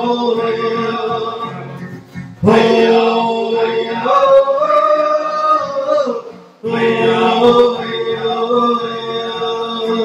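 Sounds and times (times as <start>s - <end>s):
men singing together: 0.0s - 10.0s.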